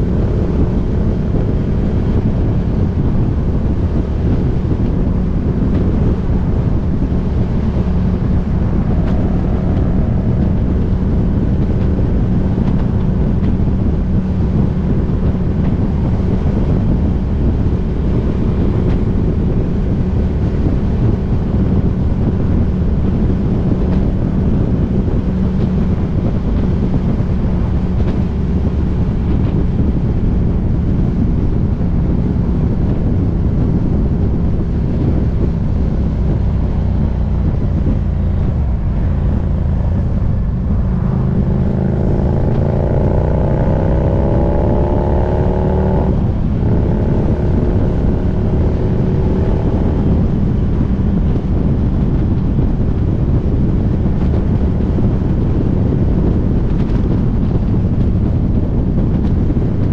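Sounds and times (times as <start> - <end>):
motorcycle engine drone: 0.0 - 59.9
wind rush on microphone: 0.0 - 59.9.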